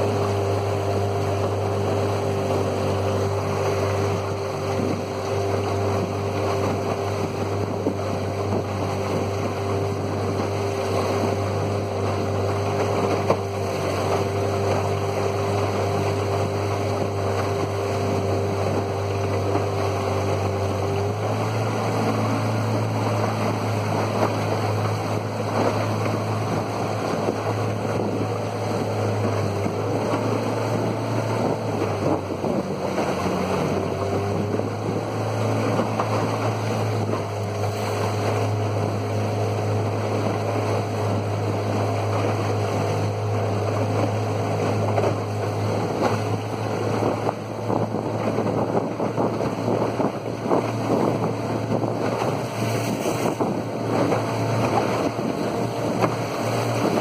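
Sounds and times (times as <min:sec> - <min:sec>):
outboard motor running: 0:00.0 - 0:57.0
water rushing past hull: 0:00.0 - 0:57.0
wind on microphone: 0:00.0 - 0:57.0.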